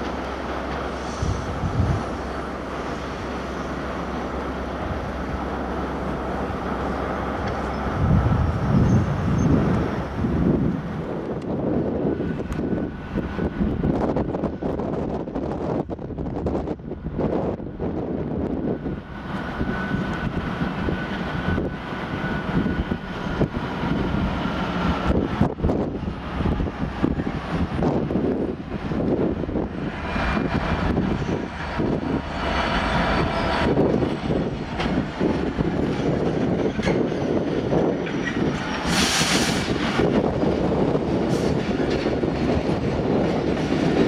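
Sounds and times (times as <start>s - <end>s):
diesel train engine humming: 0.0s - 44.0s.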